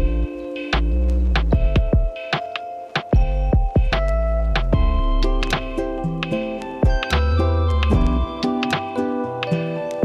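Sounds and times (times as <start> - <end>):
electronic music with deep bass: 0.0 - 10.0
sharp percussive hits: 0.0 - 10.0.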